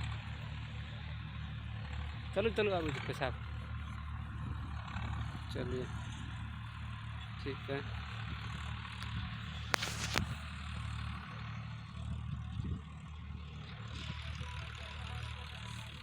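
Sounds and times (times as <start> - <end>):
diesel tractor engine rumbling: 0.0 - 16.0.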